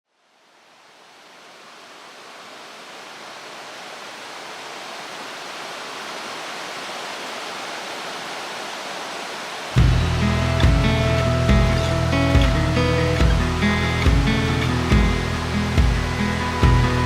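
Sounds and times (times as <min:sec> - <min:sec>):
mountain stream rushing: 0:00.1 - 0:17.0.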